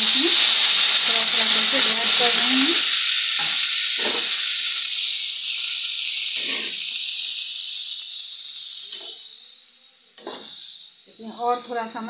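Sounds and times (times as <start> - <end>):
curry sizzling in a hot pan: 0.0 - 12.0.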